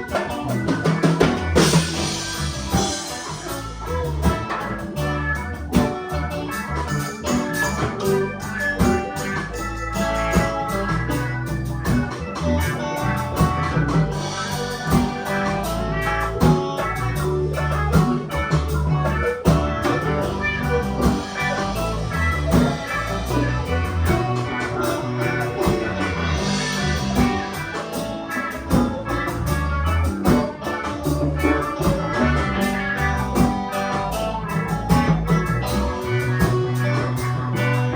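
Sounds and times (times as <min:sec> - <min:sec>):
band playing instrumental: 0:00.0 - 0:37.9
guitar: 0:00.0 - 0:37.9
organ-like keyboard: 0:00.0 - 0:37.9.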